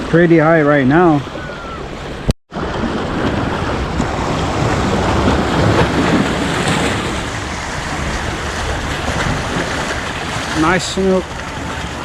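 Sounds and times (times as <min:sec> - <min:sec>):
waves washing at shore: 0:00.0 - 0:12.0.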